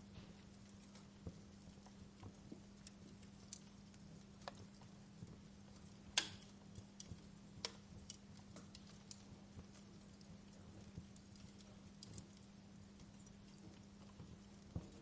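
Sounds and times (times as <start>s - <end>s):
faint low hum: 0.0s - 15.0s
fire crackling: 0.0s - 15.0s.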